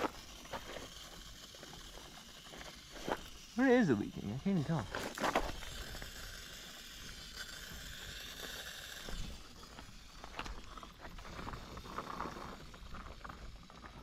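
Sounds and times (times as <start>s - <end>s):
coolant boiling hiss: 0.0s - 14.0s.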